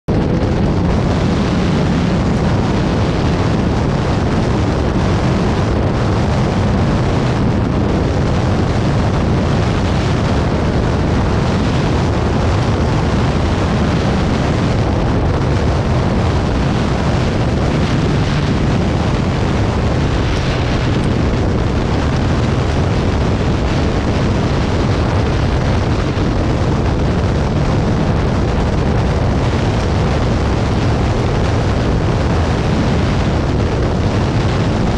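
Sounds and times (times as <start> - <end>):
wind buffeting microphone: 0.0 - 34.9
motorcycle engine: 0.1 - 34.9.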